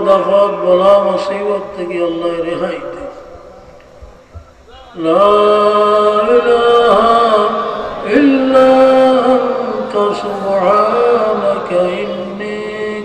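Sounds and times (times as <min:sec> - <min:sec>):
man chanting through microphone: 0:00.0 - 0:03.7, 0:04.6 - 0:13.0.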